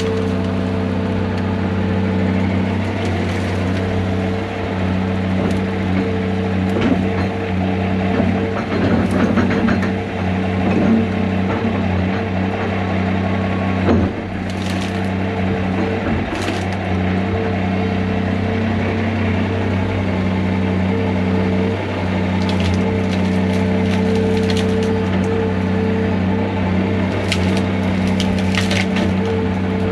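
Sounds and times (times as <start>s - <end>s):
wood cracking and splintering: 0.0s - 18.5s, 19.4s - 29.9s
diesel excavator engine under load: 0.0s - 29.9s.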